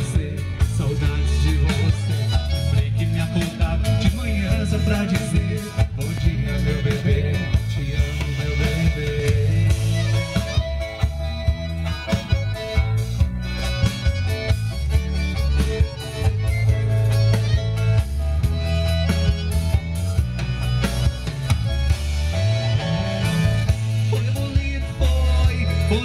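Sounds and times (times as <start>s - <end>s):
bass notes: 0.0s - 26.0s
guitar: 0.0s - 26.0s.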